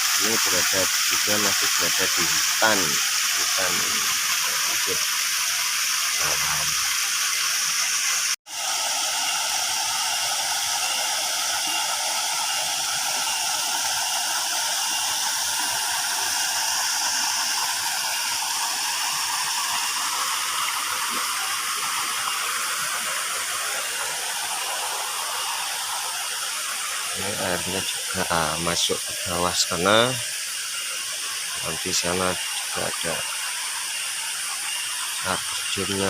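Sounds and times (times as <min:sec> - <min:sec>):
waterfall pouring and splashing: 0:00.0 - 0:36.0.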